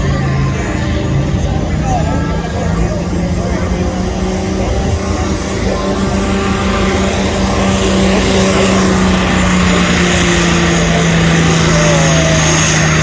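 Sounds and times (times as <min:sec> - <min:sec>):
tractor engine at high revs: 0:00.0 - 0:13.0.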